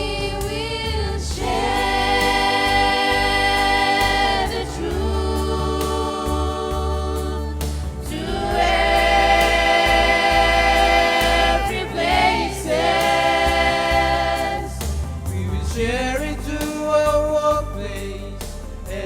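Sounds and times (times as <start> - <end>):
choir singing gospel: 0.0 - 19.0
steady low bass: 0.0 - 19.0.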